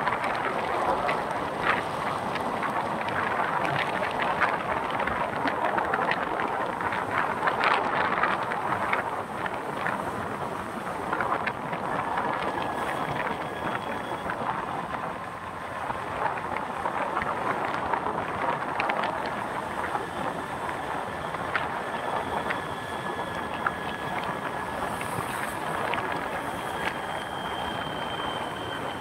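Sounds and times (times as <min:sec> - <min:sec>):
faint thin whine: 0:00.0 - 0:29.0
road and traffic noise: 0:00.0 - 0:29.0.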